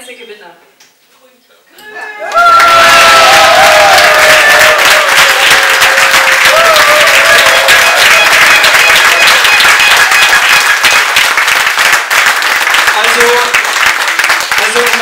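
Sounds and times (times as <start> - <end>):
audience applauding: 2.2 - 15.0.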